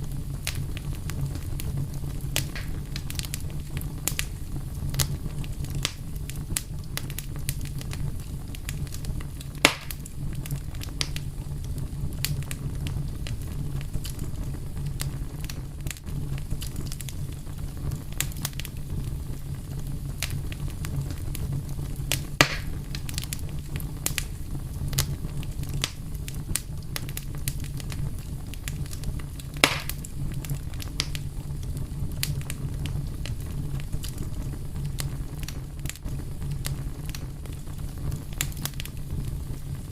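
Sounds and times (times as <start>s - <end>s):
loud pops from fire: 0.0s - 39.9s
wood fire crackling: 0.0s - 39.9s.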